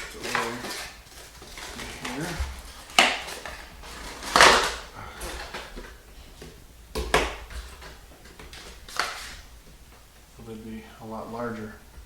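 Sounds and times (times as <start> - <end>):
packaging rustling and knocking: 0.0 - 9.8.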